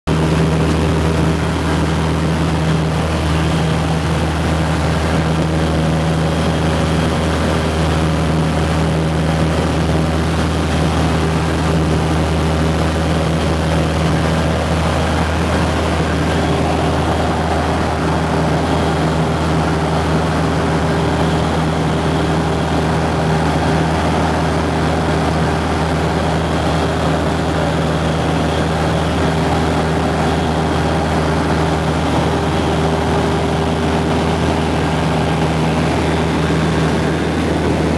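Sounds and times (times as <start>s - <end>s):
airplane engine and propeller droning: 0.1s - 37.9s.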